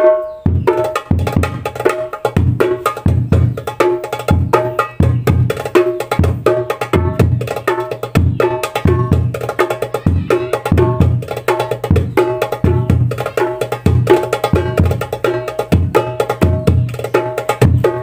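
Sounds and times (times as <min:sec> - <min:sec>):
hand drums in repeating rhythm: 0:00.0 - 0:18.0
sharp ringing darbuka strokes: 0:00.0 - 0:18.0.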